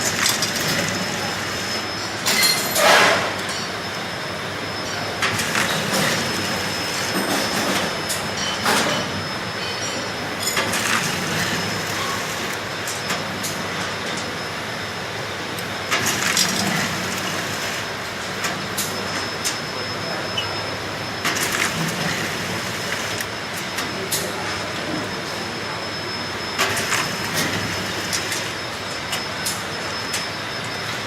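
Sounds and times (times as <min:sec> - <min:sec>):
washing machine mechanical noise: 0:00.0 - 0:31.0.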